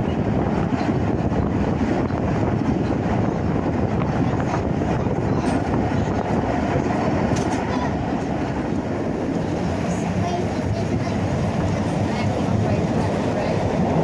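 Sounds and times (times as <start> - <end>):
train rolling on rails: 0.0 - 14.0.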